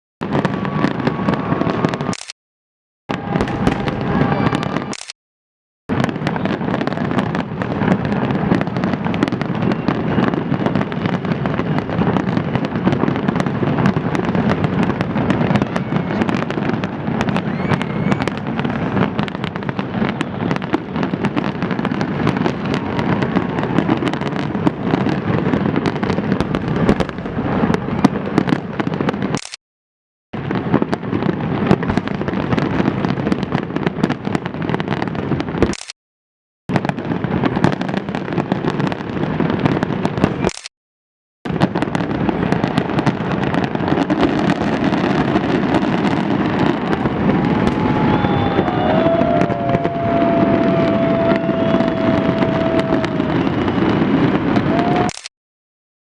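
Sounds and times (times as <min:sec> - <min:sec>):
fireworks bangs and crackling: 0:00.2 - 0:02.2, 0:03.1 - 0:05.1, 0:05.9 - 0:29.6, 0:30.4 - 0:35.9, 0:36.7 - 0:40.7, 0:41.5 - 0:55.1.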